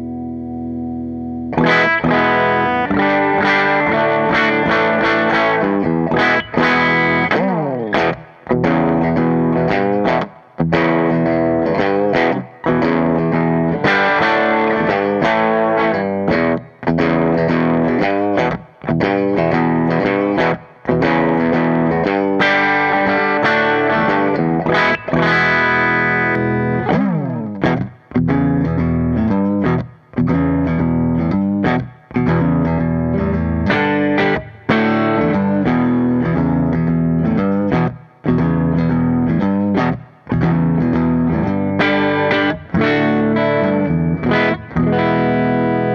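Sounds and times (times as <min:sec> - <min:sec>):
electric guitar chords: 0:00.0 - 0:45.9.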